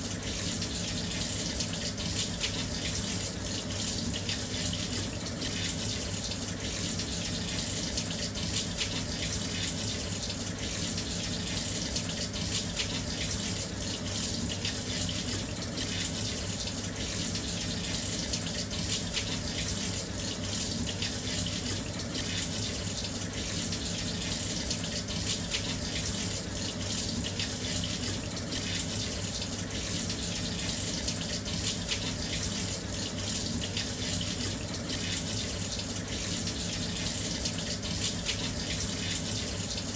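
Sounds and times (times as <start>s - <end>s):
water pouring into washing machine: 0.0s - 39.9s.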